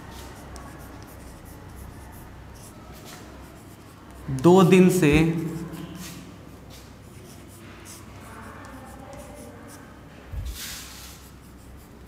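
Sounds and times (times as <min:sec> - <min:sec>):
chalk scratching on blackboard: 0:00.0 - 0:04.4, 0:05.2 - 0:12.0.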